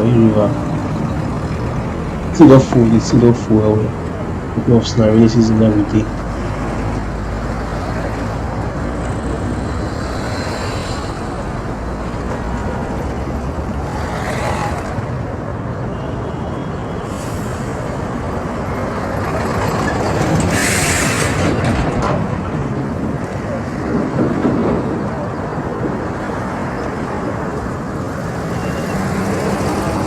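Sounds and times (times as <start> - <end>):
road traffic rush: 0.0 - 30.0
vehicles passing: 0.0 - 30.0.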